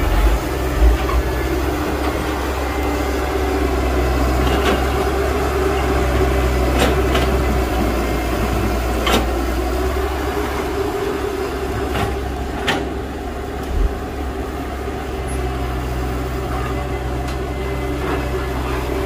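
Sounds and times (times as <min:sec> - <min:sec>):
heavy diesel machinery running: 0:00.0 - 0:19.0.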